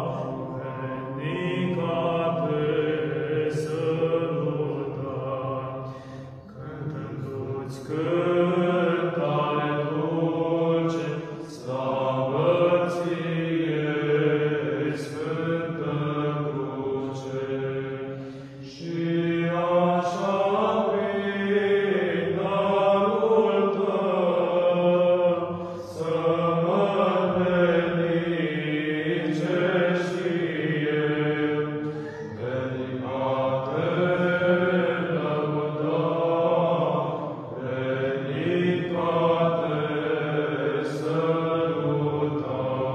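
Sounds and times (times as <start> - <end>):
male choir chanting a cappella: 0.0 - 42.9.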